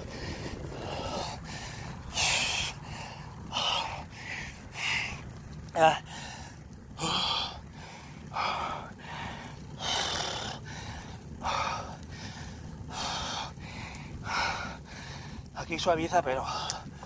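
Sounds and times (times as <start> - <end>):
person breathing hard: 0.0 - 5.2, 6.1 - 15.5, 16.4 - 17.0.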